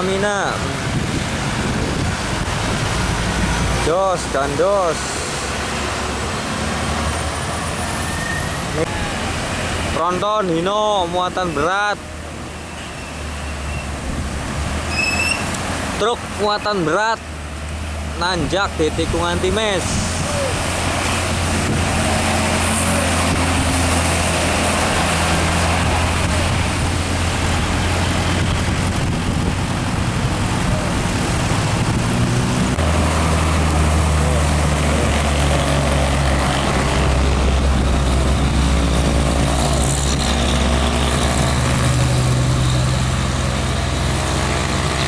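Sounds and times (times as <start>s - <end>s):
truck diesel engine labouring: 0.0s - 45.0s.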